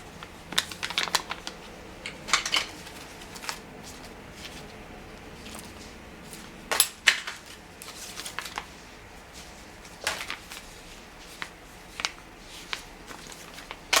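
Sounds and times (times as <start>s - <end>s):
packaging rustling and clicking: 0.2s - 8.7s, 9.8s - 14.0s.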